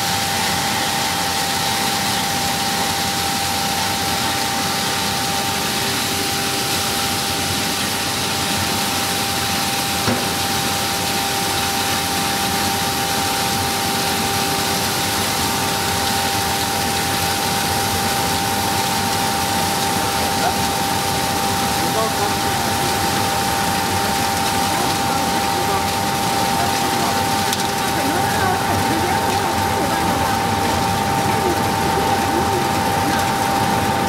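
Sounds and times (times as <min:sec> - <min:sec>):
machine running with whining tone: 0:00.0 - 0:34.0.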